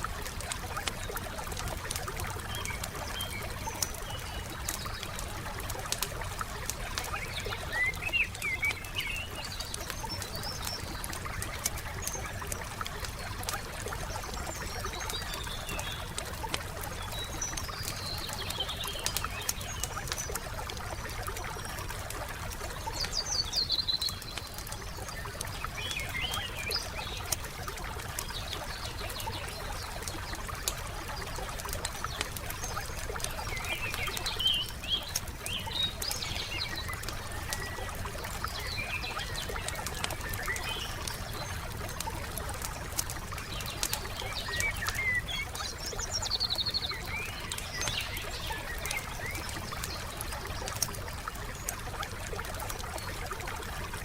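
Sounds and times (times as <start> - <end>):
wood fire crackling: 0.0 - 23.3, 23.9 - 54.0
songbirds chirping: 0.0 - 54.0.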